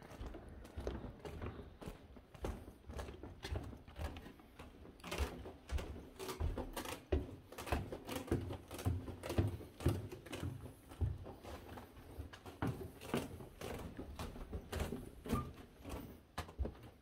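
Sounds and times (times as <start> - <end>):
footsteps on stairs: 0.0 - 17.0.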